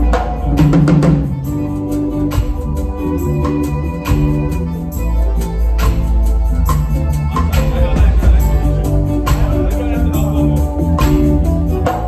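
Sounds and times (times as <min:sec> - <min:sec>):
band music with heavy bass: 0:00.0 - 0:12.0.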